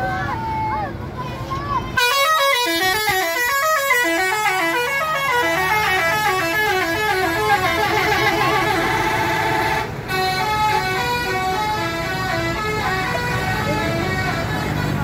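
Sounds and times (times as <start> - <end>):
bus horn playing a melody: 2.0 - 15.0.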